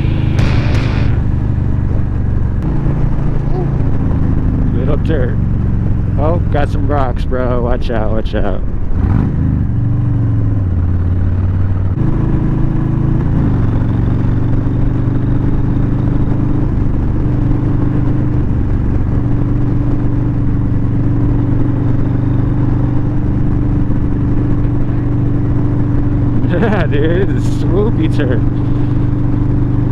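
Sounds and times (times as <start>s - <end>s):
motorcycle engine cruising: 0.0s - 29.9s
wind and road noise: 0.0s - 29.9s.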